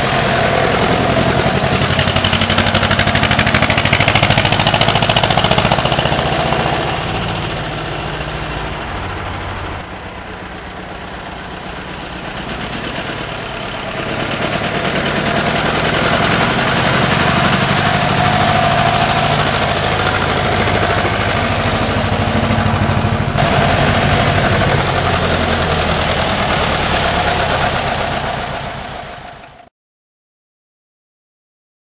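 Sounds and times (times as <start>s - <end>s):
tractor diesel engine running: 0.0s - 29.7s.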